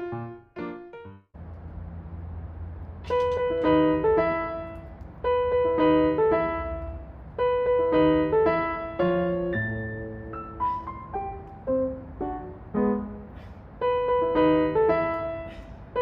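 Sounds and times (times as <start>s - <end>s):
piano phrase: 0.0s - 1.4s, 3.0s - 16.0s.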